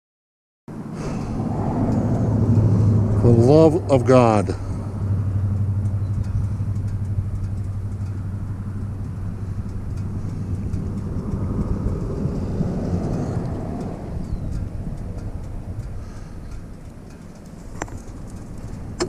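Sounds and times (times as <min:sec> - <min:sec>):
motorcycle engine running: 0:01.8 - 0:19.0.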